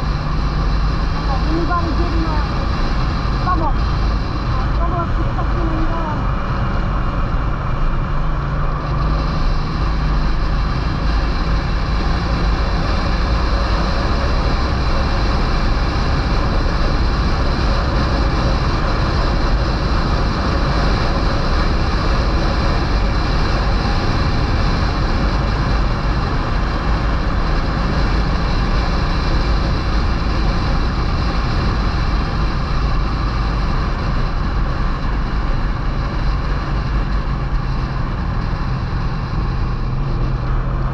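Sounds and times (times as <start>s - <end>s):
motorcycle engine running: 0.0s - 40.9s
wind on microphone: 0.0s - 40.9s.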